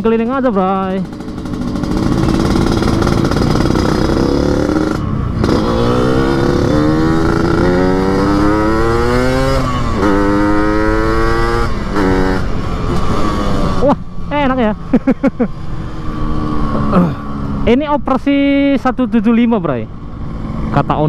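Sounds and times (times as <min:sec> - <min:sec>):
motorcycle accelerating: 0:00.0 - 0:21.0.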